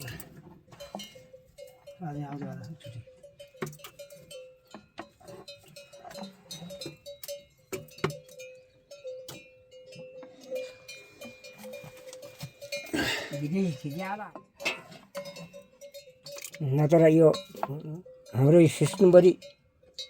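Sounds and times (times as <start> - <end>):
livestock neck bells clanking: 0.0 - 20.0.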